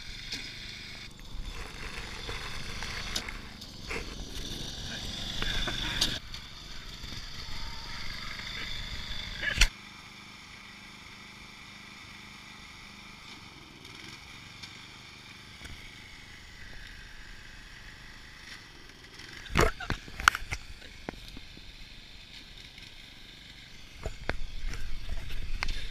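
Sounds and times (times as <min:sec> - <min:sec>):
riding lawn mower engine running: 0:00.0 - 0:25.9.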